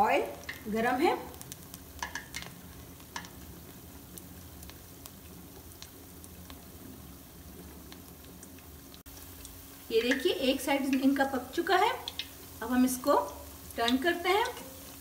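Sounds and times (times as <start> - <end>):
fritters sizzling in hot oil: 0.0 - 15.0
oil crackles and pops: 0.1 - 15.0.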